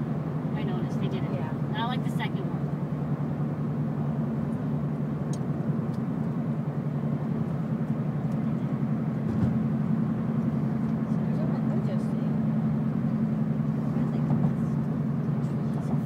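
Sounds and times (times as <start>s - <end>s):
car cabin engine and road noise: 0.0s - 16.0s.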